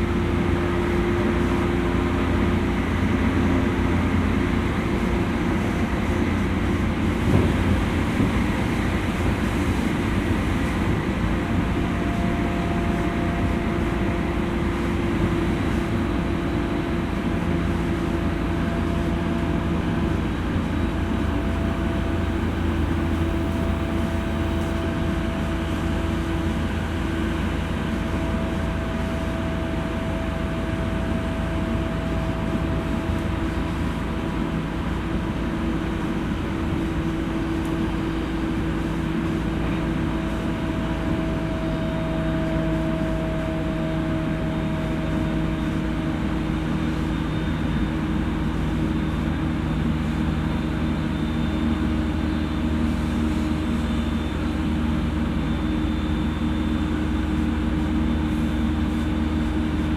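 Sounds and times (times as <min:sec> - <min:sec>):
faint steady whine: 0:00.0 - 0:59.9
train wheels rumbling on rail: 0:00.0 - 0:59.9.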